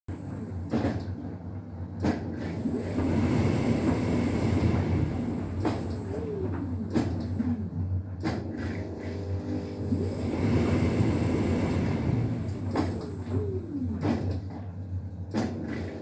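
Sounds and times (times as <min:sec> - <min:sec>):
tumble dryer running: 0:00.1 - 0:16.0.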